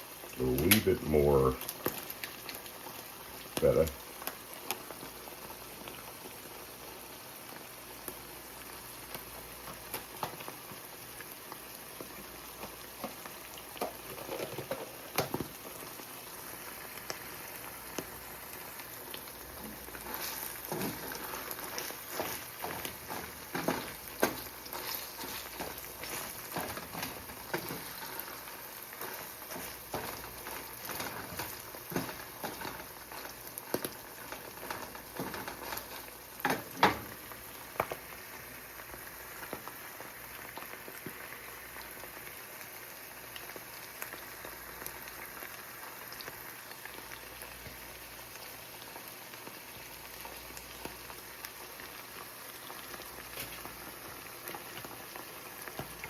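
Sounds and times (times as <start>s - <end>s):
food sizzling in frying pan: 0.0s - 56.0s.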